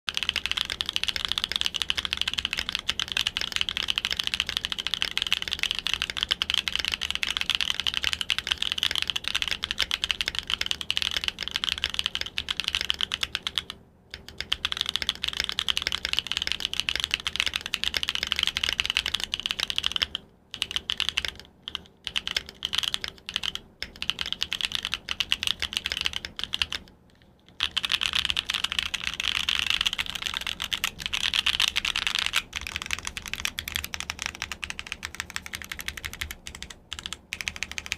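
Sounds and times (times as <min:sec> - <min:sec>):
mechanical keyboard typing: 0:00.1 - 0:37.9.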